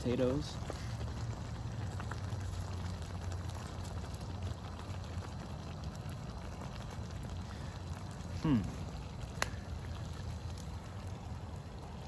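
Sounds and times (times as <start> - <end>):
gas burner rumble: 0.0 - 12.0
stew bubbling in a pot: 0.0 - 12.0.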